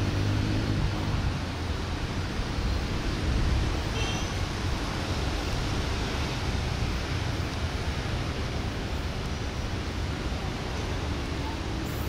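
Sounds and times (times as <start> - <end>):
rushing noise of moving train: 0.0 - 12.0.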